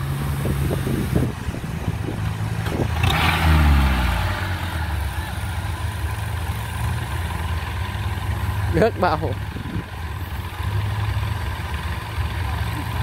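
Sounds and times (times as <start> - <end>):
tracked vehicle engine running: 0.0 - 13.0.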